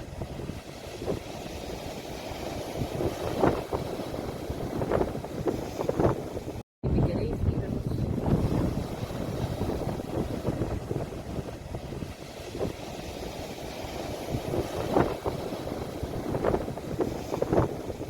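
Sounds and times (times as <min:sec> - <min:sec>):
sea waves washing ashore: 0:00.0 - 0:18.0
wind noise on microphone: 0:00.0 - 0:18.0.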